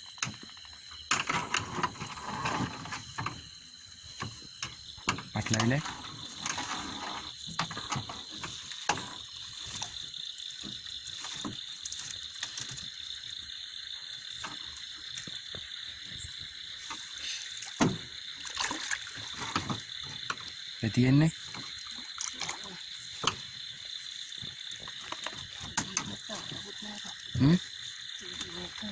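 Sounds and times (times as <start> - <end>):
frogs and insects chorus: 0.0 - 28.9.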